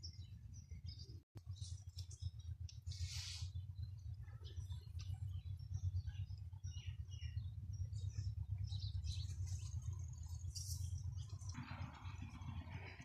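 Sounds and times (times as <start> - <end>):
small birds chirping: 0.0 - 13.0
steady low rumble: 0.1 - 13.0.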